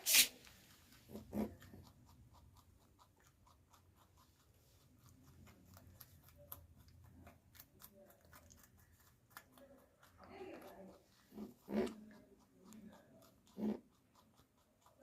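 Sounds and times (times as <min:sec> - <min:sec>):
animal chewing carrot: 0:00.0 - 0:15.0.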